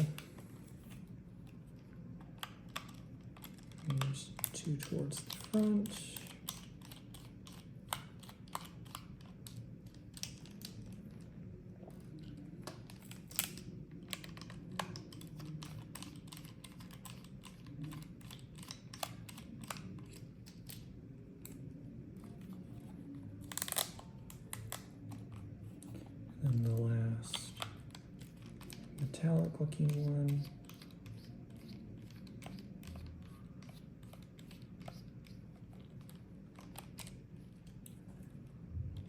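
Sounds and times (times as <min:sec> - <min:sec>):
handling small plastic parts: 0:00.0 - 0:11.3, 0:11.9 - 0:38.0.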